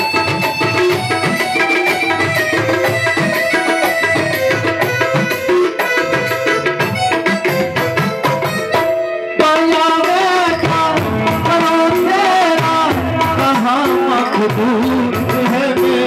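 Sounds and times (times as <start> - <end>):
keyboard melody: 0.0 - 16.0
tabla strokes: 0.0 - 16.0.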